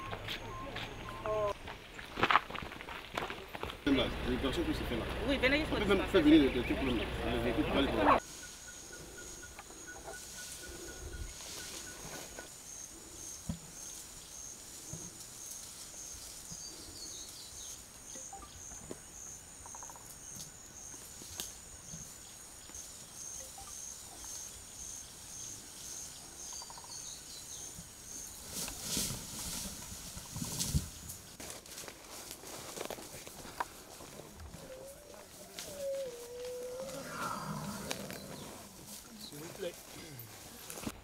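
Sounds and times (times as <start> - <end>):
insects chirping: 0.0 - 31.4, 32.0 - 40.9.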